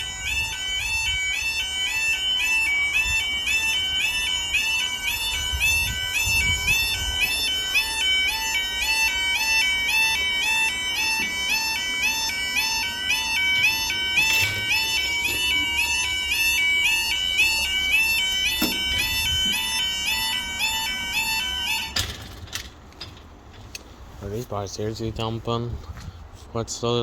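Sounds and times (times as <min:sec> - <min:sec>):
level crossing warning alarm: 0:00.0 - 0:22.7.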